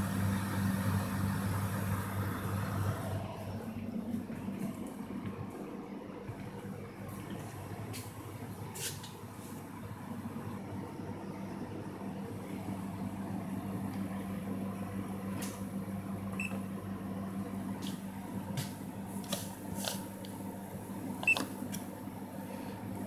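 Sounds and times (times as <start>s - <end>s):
vending machine humming: 0.0s - 23.0s.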